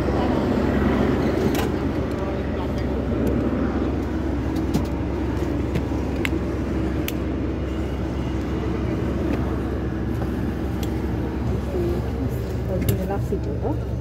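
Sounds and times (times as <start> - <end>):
aircraft engine rumbling: 0.0 - 14.0.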